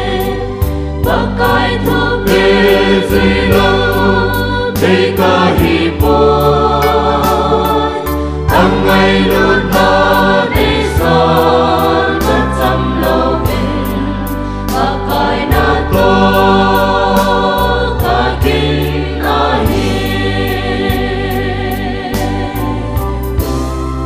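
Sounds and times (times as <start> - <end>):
choir singing gospel in harmony: 0.0 - 24.0
sustained bass notes: 0.0 - 24.0.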